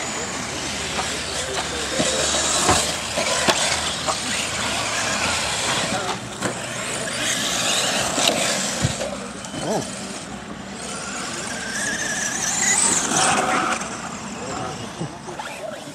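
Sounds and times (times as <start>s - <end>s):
electric motor and gear whine: 0.0s - 15.9s
tyres on loose dirt: 0.0s - 15.9s.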